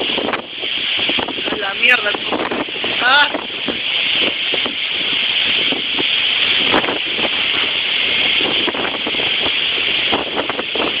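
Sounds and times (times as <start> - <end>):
rain: 0.0 - 11.0
strong wind gusting: 0.0 - 11.0.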